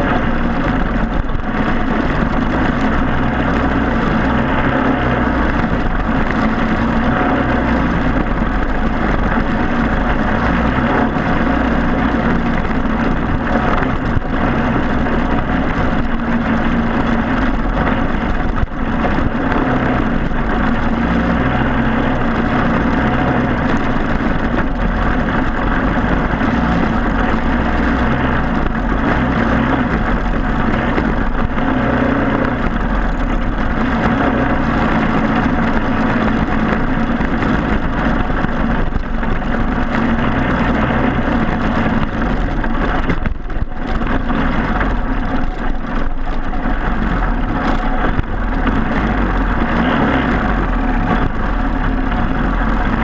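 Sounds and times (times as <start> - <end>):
kart engine running: 0.0 - 53.0.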